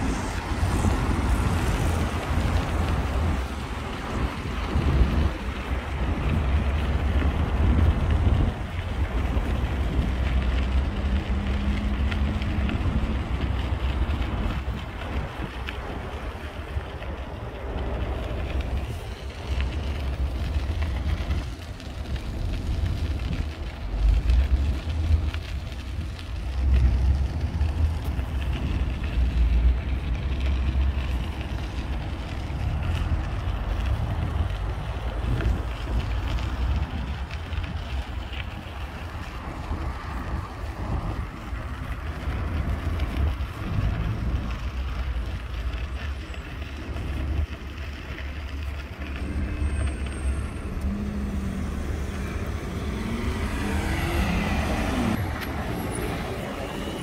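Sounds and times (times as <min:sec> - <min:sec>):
street traffic hiss: 0:00.0 - 0:57.0
wind buffeting microphone: 0:00.0 - 0:57.0.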